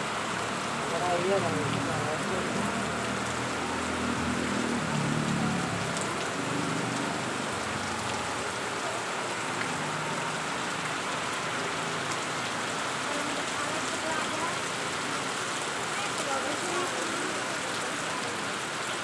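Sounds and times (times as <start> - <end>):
heavy rain on foliage: 0.0 - 19.0.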